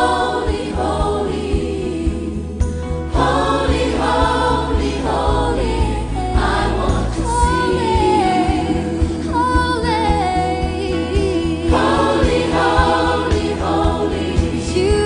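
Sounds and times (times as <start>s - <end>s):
choir singing gospel music: 0.0s - 15.0s.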